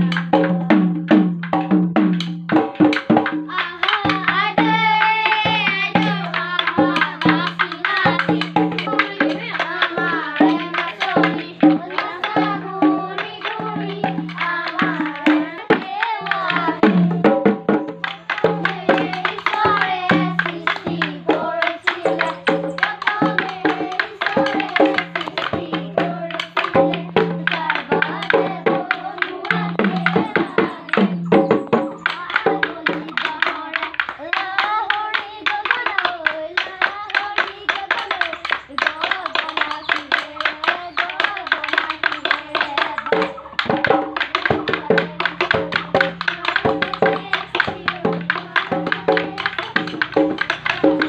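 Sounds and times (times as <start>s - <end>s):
bamboo clappers: 0.0s - 51.0s
drum beat: 0.0s - 51.0s
group singing: 2.5s - 51.0s.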